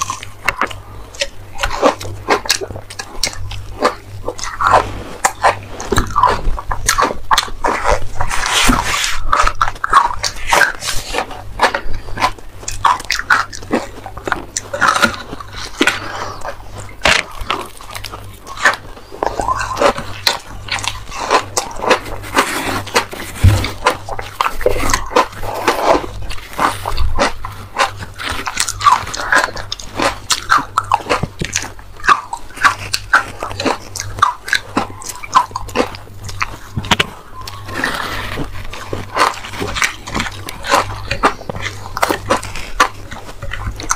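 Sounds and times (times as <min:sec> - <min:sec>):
ice crunching in mouth: 0:00.0 - 0:43.9.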